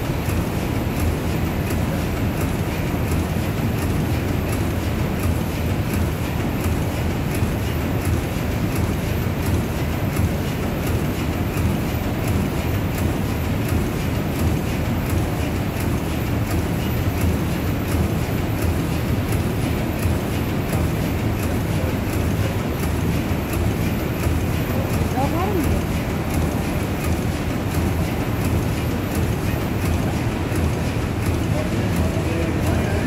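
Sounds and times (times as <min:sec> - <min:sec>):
steam engine running: 0:00.0 - 0:33.0
light mechanical ticking: 0:00.1 - 0:33.0.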